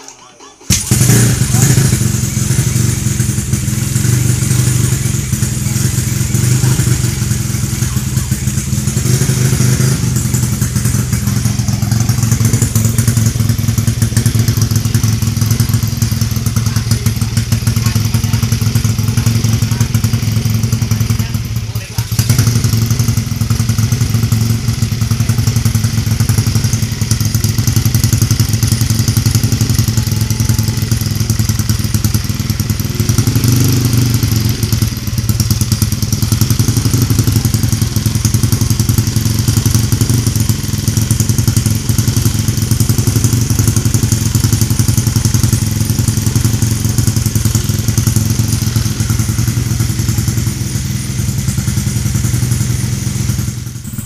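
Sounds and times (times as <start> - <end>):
motorcycle engine idling: 0.7 - 54.0.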